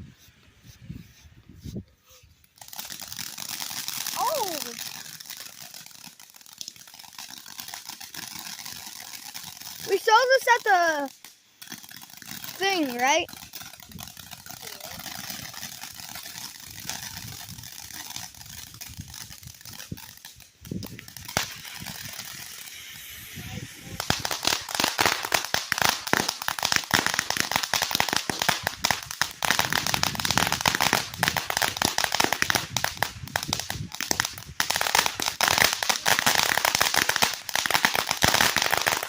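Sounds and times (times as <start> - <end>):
firework crackling and popping: 0.0 - 39.0.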